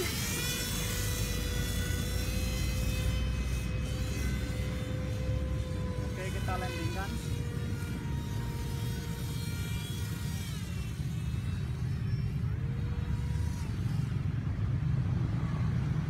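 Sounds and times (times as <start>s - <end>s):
model motor and propeller whining: 0.0s - 16.0s.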